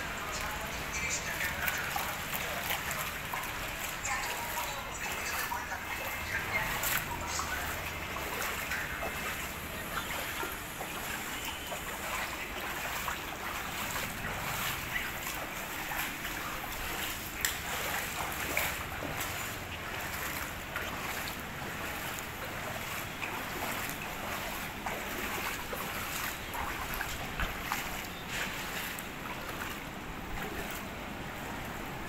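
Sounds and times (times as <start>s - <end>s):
floodwater flowing over street: 0.0s - 32.0s.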